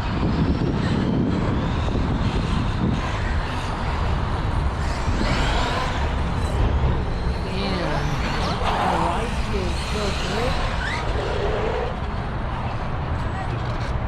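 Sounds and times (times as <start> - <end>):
rc car driving: 0.0 - 14.0.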